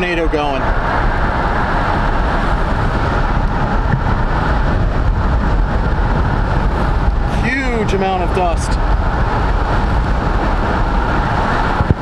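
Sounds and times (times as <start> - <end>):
car road and wind noise: 0.0 - 12.0.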